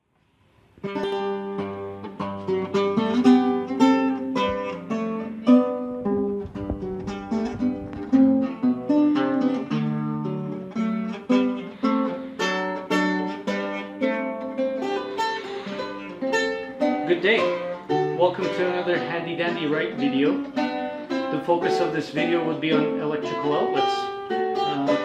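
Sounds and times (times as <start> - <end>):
lute plucked melody: 0.8 - 25.0.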